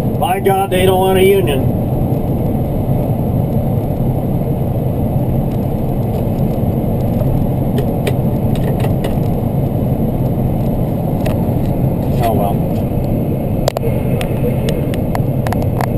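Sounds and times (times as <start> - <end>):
road noise: 0.0 - 15.9
truck engine drone: 0.0 - 15.9.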